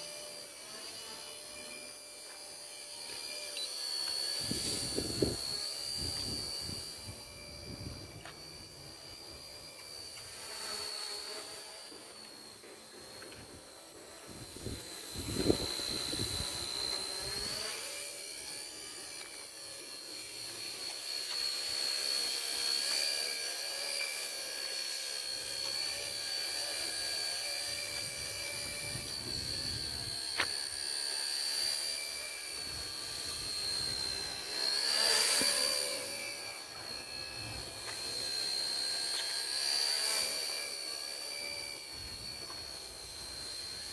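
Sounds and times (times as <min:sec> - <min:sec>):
small helicopter motor whine: 0:00.0 - 0:43.9.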